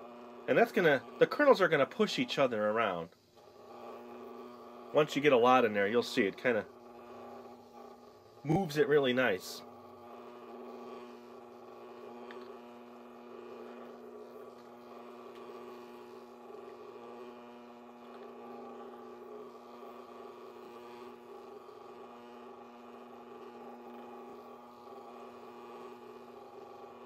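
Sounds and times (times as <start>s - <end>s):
popcorn popper motor humming: 0.0s - 27.0s.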